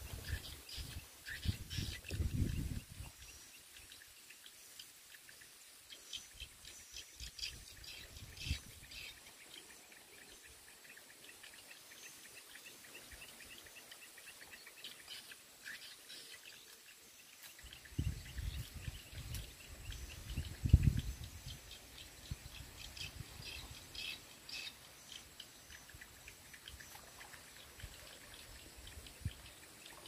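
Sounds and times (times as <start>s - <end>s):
birds and insects chirping: 0.0s - 30.0s
high insect hum: 0.0s - 30.0s.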